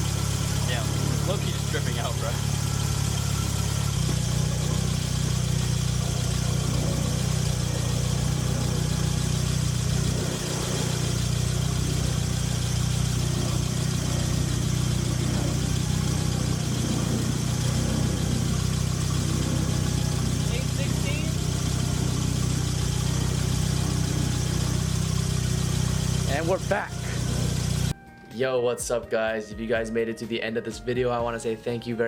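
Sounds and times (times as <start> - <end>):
rotary engine idling: 0.0 - 27.9.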